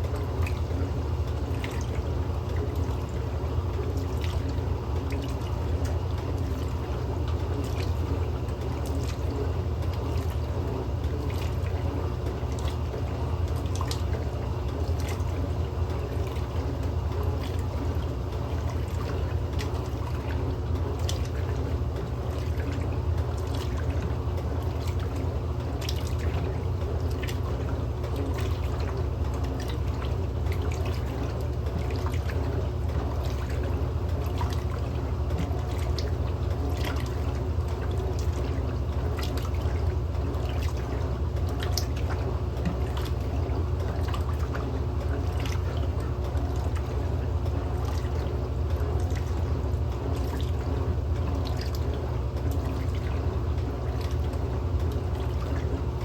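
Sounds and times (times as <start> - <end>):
washing machine humming: 0.0 - 56.0
water splashing and dripping: 0.0 - 56.0.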